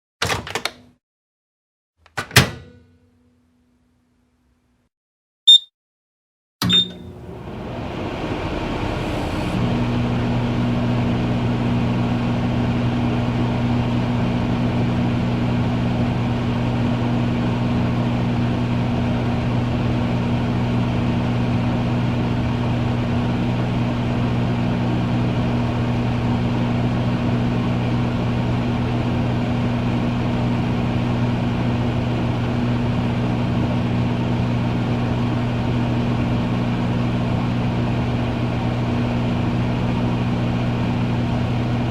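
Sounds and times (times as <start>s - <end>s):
microwave oven hum: 2.1s - 3.2s, 6.6s - 41.9s
microwave fan whir: 6.6s - 41.9s.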